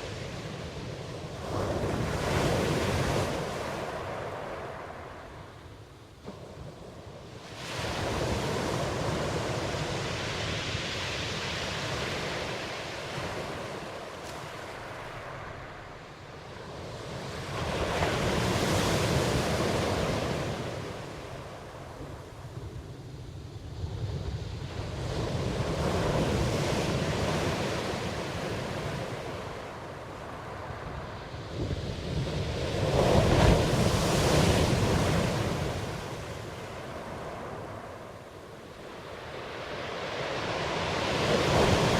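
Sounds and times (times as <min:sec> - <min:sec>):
ocean waves washing in: 0:00.0 - 0:41.9.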